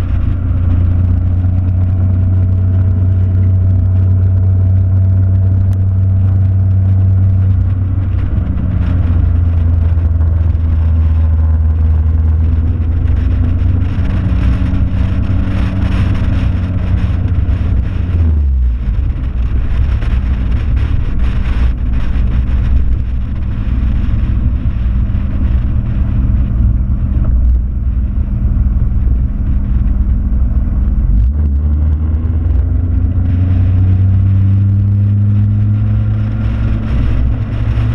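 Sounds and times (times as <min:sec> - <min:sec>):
car engine running: 0:00.0 - 0:37.9
wind and road noise: 0:00.0 - 0:37.9.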